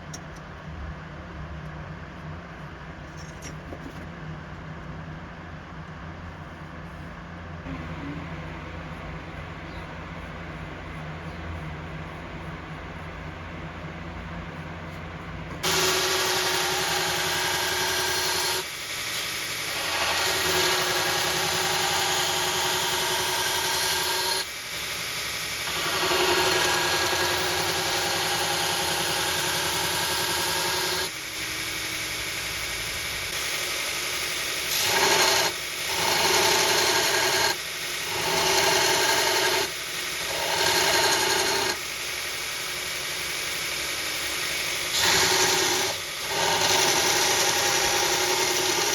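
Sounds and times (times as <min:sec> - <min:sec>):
grinder grinding steel: 0:07.7 - 0:24.5, 0:25.5 - 0:48.9.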